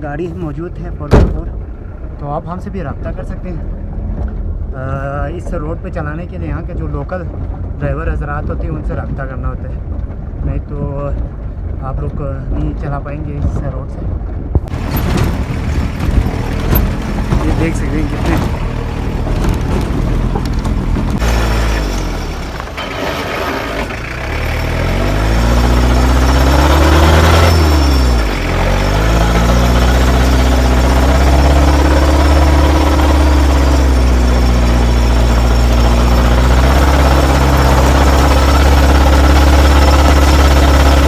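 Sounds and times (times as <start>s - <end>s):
car engine under load: 0.0s - 41.0s.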